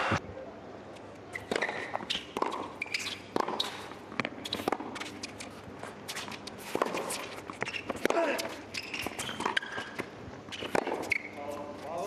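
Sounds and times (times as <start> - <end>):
shoes squeaking on court: 1.0 - 12.0
tennis ball bouncing: 1.3 - 11.3
rackets striking tennis ball: 1.4 - 12.0.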